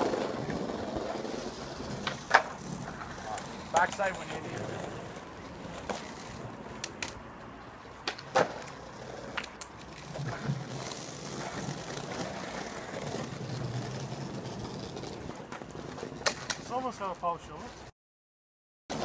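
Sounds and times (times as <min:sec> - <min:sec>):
skateboard wheels rolling: 0:00.0 - 0:17.9
skateboards clacking on ground: 0:00.0 - 0:17.9.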